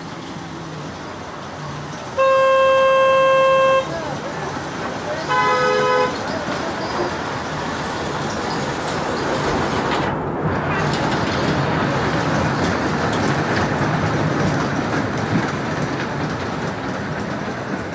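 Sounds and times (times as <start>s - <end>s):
miniature train running on track: 0.0s - 17.9s.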